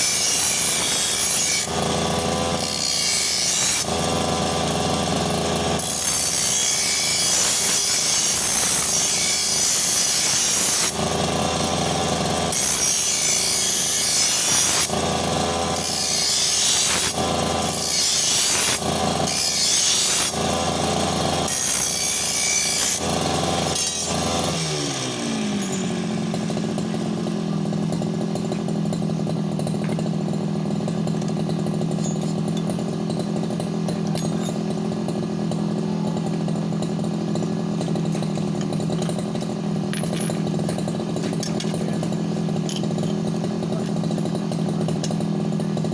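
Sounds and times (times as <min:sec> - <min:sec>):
brush cutter engine revving: 0:00.0 - 0:45.9.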